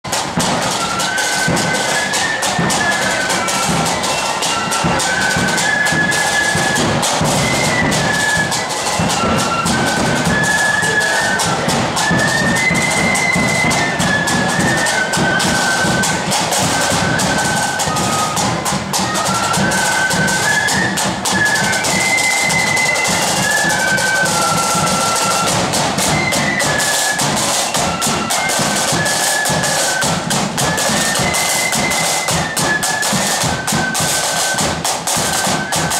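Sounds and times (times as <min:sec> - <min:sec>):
high flute melody: 0:00.0 - 0:35.9
side drums: 0:00.0 - 0:35.9.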